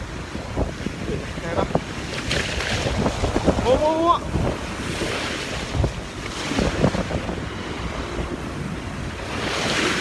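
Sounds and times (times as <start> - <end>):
waves washing on shore: 0.0 - 10.0
wind buffeting microphone: 0.0 - 10.0.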